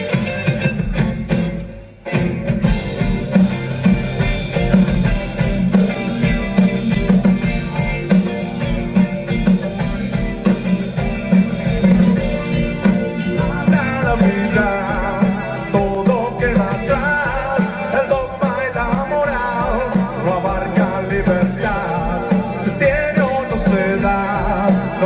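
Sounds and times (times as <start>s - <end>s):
drum kit: 0.0s - 25.0s
guitars: 0.0s - 25.0s.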